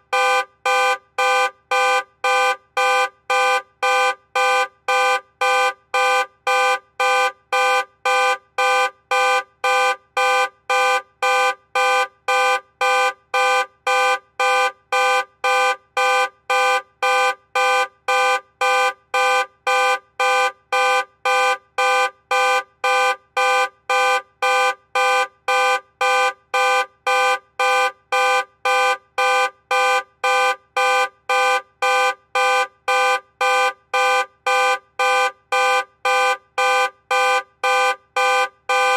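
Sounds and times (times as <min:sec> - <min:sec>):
car alarm honking horn: 0:00.1 - 0:38.9.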